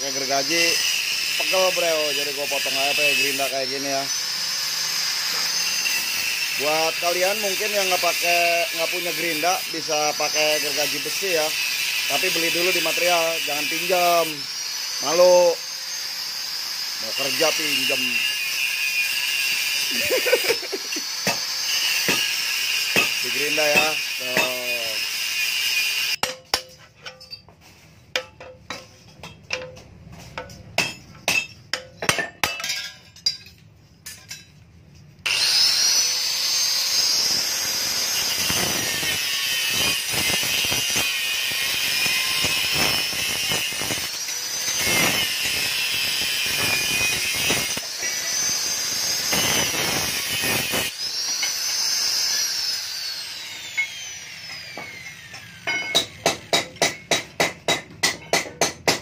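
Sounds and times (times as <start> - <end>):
angle grinder cutting steel: 0.0 - 27.3, 35.2 - 59.0.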